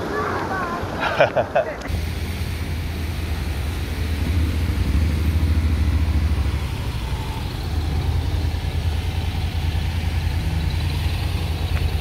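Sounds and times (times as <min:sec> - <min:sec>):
scooter engine running: 0:01.9 - 0:12.0.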